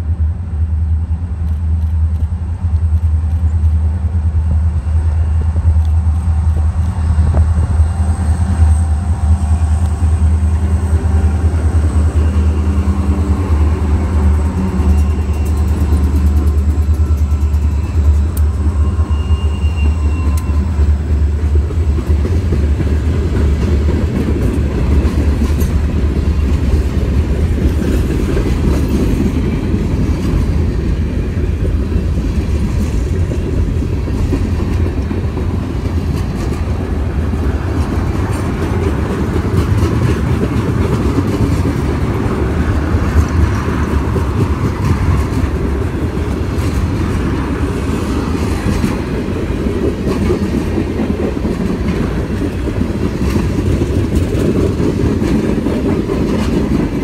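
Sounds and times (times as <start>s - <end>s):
steel wheels rumbling on rails: 0.0s - 57.0s
clickety-clack over rail joints: 0.8s - 57.0s.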